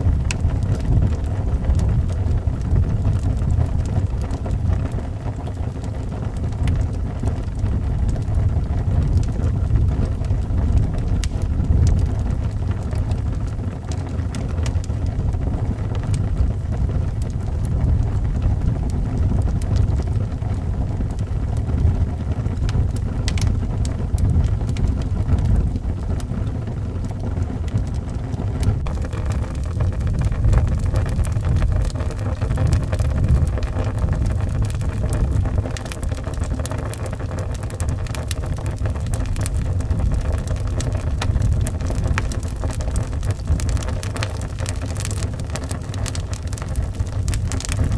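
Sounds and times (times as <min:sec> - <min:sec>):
log fire crackling: 0:00.0 - 0:47.9.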